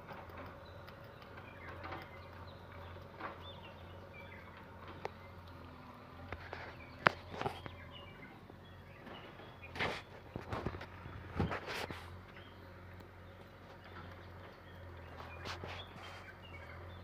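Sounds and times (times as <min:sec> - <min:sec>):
bird chirps: 0:00.2 - 0:17.0.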